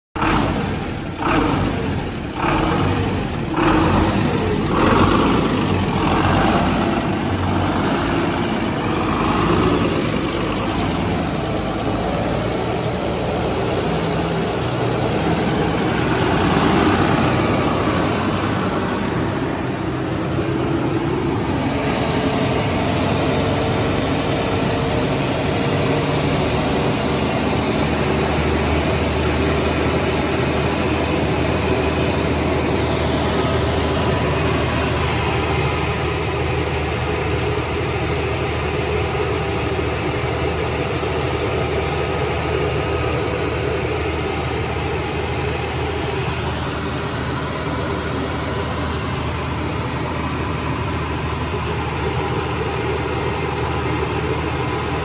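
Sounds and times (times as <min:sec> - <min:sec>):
diesel generator running: 0:00.2 - 0:55.0.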